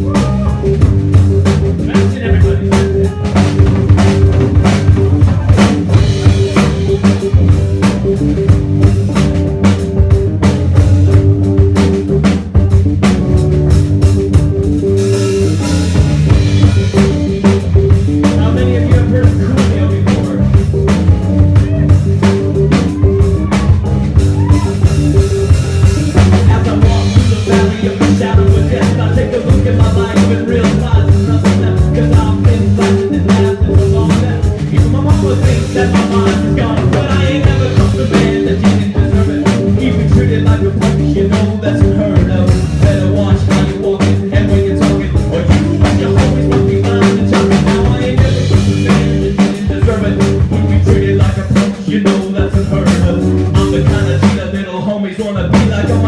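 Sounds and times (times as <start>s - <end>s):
drum kit hits: 0.0s - 54.6s
live rock band playing: 0.0s - 56.0s.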